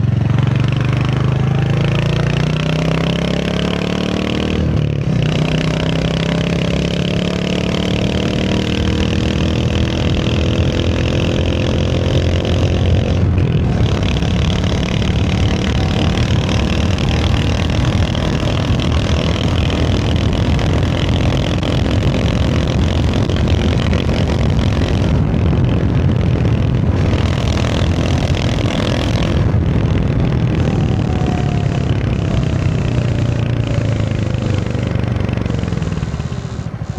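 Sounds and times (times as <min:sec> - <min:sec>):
motorcycle engine accelerating: 0:00.0 - 0:36.9
wind and road noise: 0:00.0 - 0:36.9.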